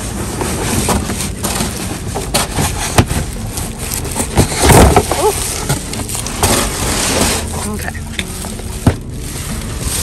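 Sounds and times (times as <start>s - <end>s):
cardboard rubbing on plastic: 0.0s - 10.0s
scraping thump: 0.4s - 9.1s.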